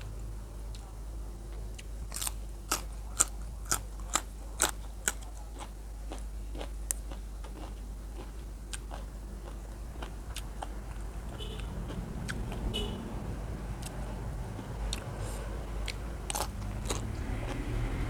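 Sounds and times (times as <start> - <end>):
person chewing crisp chili: 1.8 - 12.7, 13.6 - 18.0.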